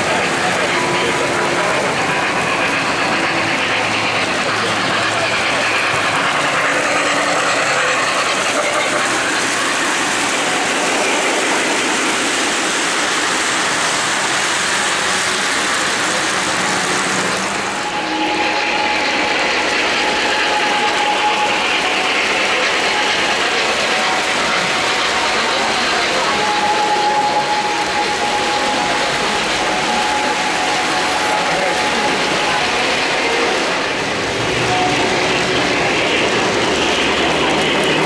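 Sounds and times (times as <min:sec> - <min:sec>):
model trains clattering on track: 0:00.0 - 0:38.0.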